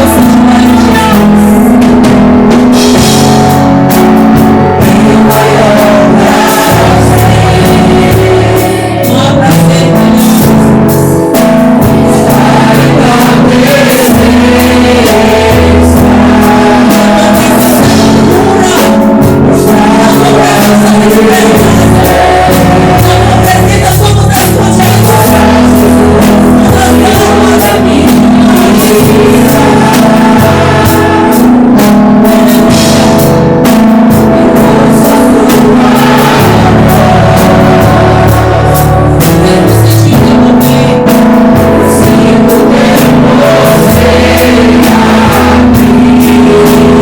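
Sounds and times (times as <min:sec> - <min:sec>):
live gospel band with singing: 0:00.0 - 0:47.0.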